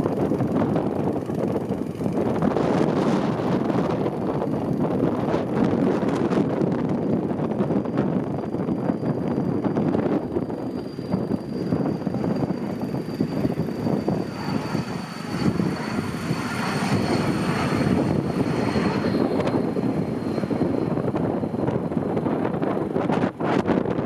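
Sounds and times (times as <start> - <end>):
aircraft engine whine: 0.0 - 24.0
wind buffeting microphone: 0.0 - 24.0.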